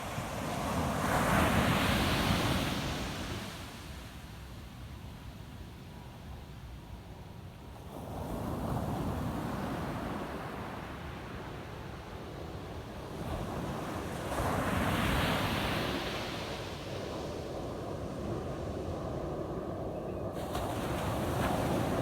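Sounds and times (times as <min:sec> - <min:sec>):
ocean waves breaking on a beach: 0:00.0 - 0:04.4, 0:07.8 - 0:22.0.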